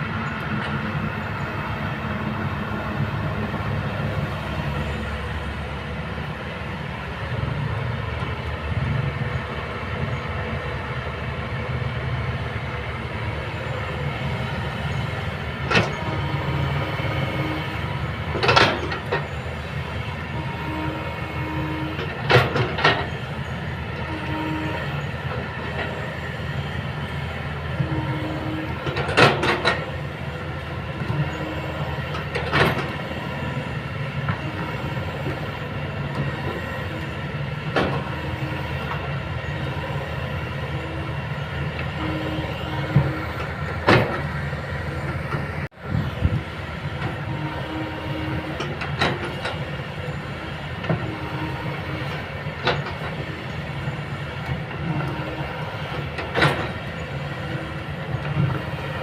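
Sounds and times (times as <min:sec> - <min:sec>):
excavator diesel engine: 0:00.0 - 0:59.0
hydraulic whines: 0:11.7 - 0:59.0.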